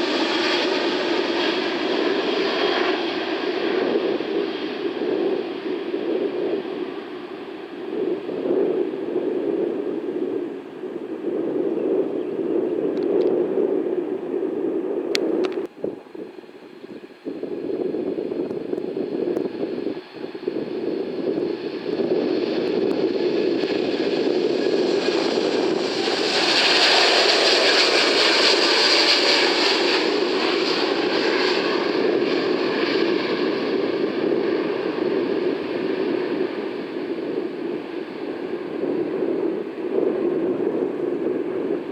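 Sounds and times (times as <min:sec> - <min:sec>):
jet airliner passing: 0:00.0 - 0:41.9
steady low rumble: 0:00.0 - 0:41.9.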